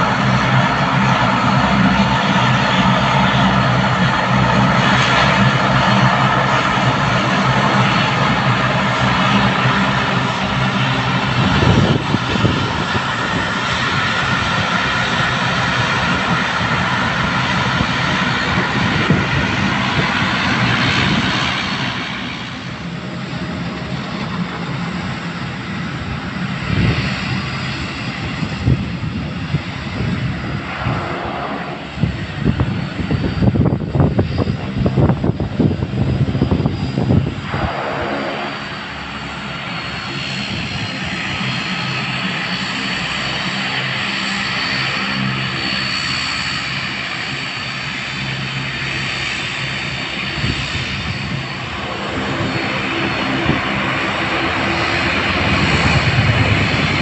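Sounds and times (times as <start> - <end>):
gusty buffeting rumble: 0.0 - 57.0
propeller hum: 0.0 - 57.0
turbine whine: 0.0 - 57.0.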